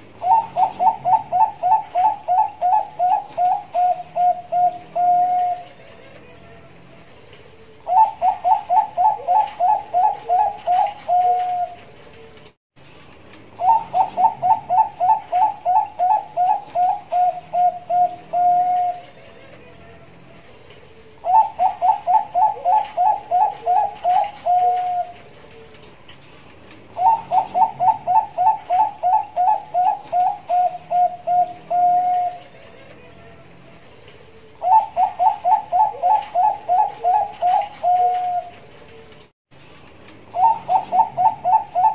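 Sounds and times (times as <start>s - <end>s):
dove cooing song: 0.0s - 12.5s, 13.4s - 39.2s, 40.2s - 41.9s.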